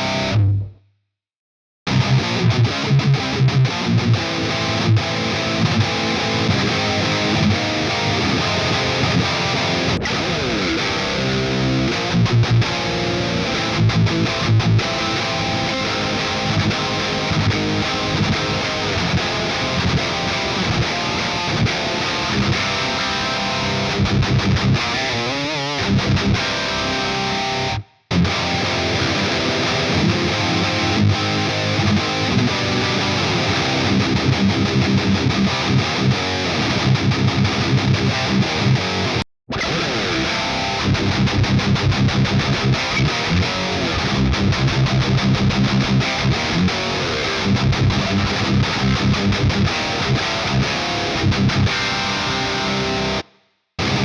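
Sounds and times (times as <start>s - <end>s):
distorted electric guitar riffs: 0.0s - 0.8s, 1.9s - 54.0s.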